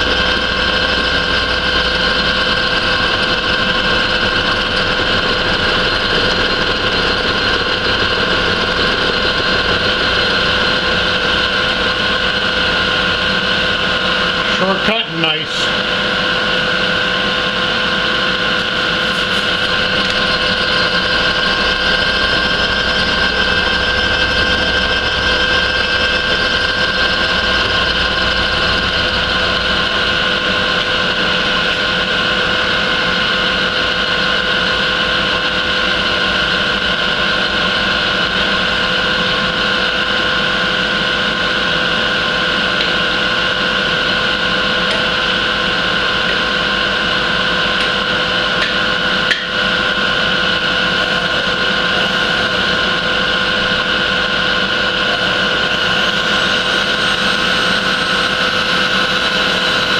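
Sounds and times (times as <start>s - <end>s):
end mill cutting metal: 0.0s - 59.9s
machine motor hum: 0.0s - 59.9s.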